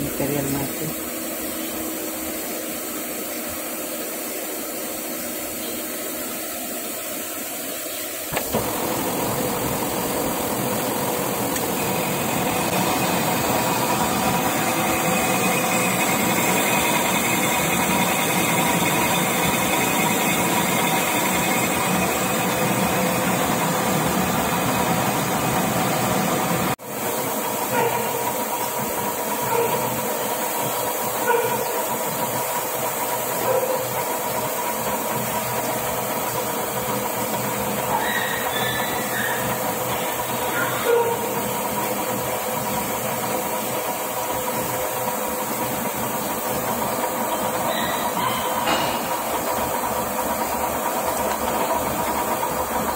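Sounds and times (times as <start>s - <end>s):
metal lathe hum with whine: 0.0s - 52.9s.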